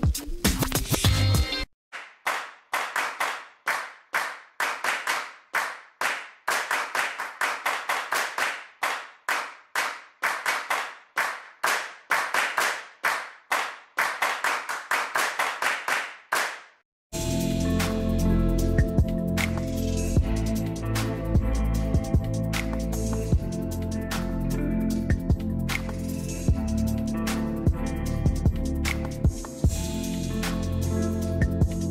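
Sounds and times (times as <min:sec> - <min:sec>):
hand claps in steady rhythm: 0:02.0 - 0:16.8, 0:18.8 - 0:29.8.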